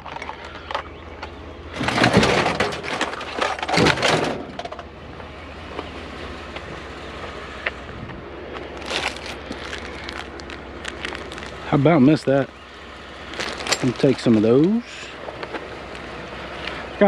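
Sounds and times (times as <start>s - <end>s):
handling noises: 0.0s - 12.5s, 13.2s - 17.0s
junk clattering and rattling: 0.0s - 12.6s, 13.2s - 17.0s.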